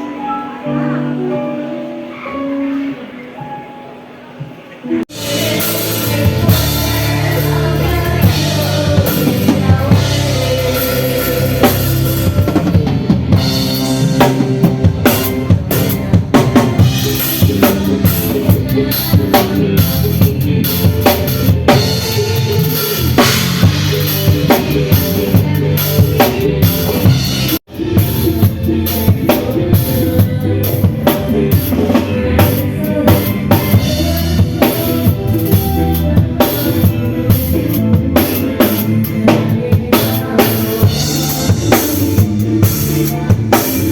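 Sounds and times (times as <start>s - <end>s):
band playing: 0.0s - 43.9s.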